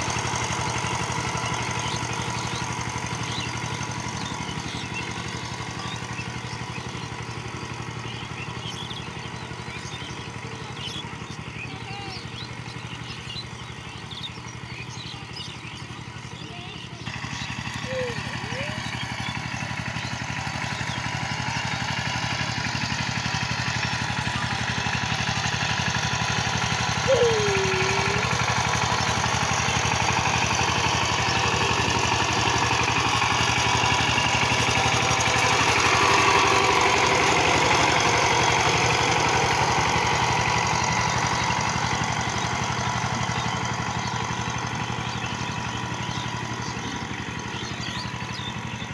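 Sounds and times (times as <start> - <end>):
diesel tiller engine running: 0.0 - 48.9.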